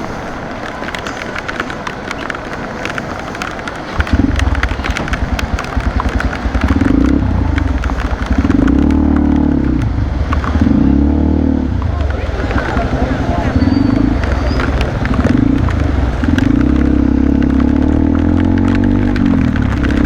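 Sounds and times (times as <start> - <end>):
heavy rain on wet road: 0.0 - 20.0
raindrops tapping camera: 0.0 - 20.0
motorcycle engine accelerating: 3.9 - 20.0.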